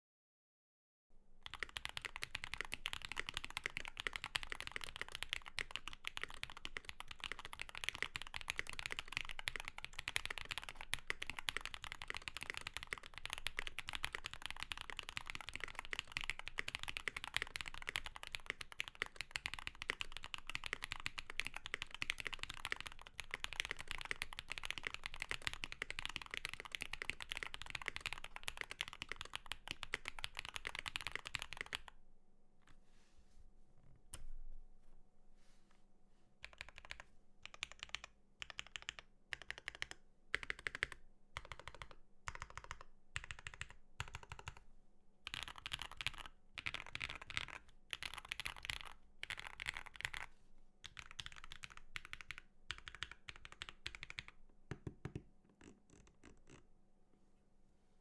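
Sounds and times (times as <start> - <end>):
fast typing on mechanical keyboard: 1.4 - 31.9, 36.4 - 44.6, 45.2 - 55.2.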